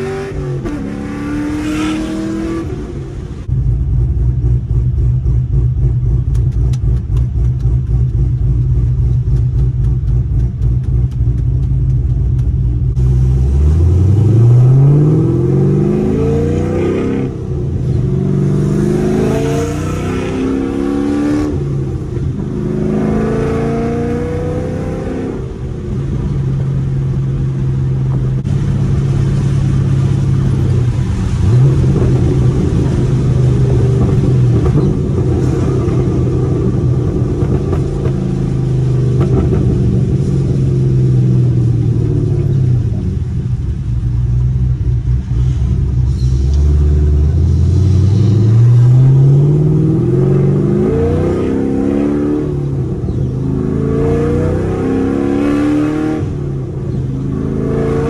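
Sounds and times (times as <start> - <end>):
car engine rumbling and revving: 0.0 - 58.0.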